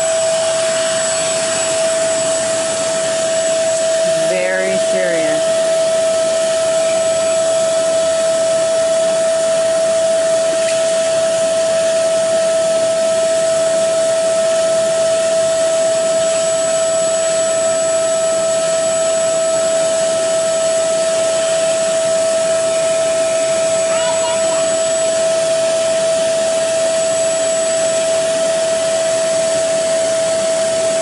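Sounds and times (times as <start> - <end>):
carpet shampooer motor whine: 0.0 - 31.0.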